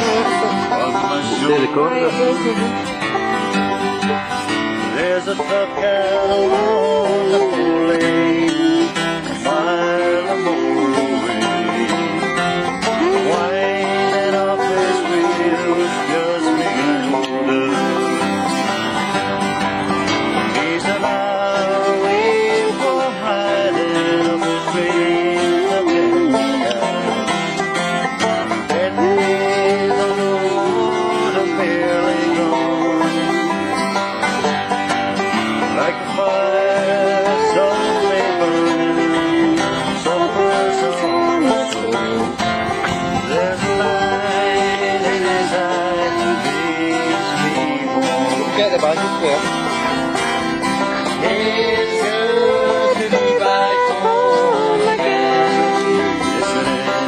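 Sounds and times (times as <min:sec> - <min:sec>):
man singing: 0:00.0 - 0:03.3, 0:04.8 - 0:18.5, 0:20.4 - 0:27.4, 0:28.5 - 0:33.8, 0:35.6 - 0:49.9, 0:51.0 - 0:57.0
acoustic guitar strumming: 0:00.0 - 0:57.0
banjo: 0:00.0 - 0:57.0.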